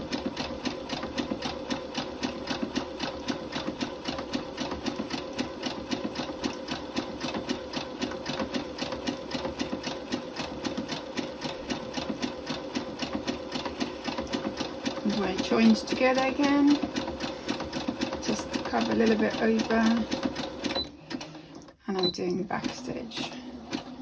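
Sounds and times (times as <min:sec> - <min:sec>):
sewing machine running: 0:00.0 - 0:21.8, 0:22.4 - 0:24.0.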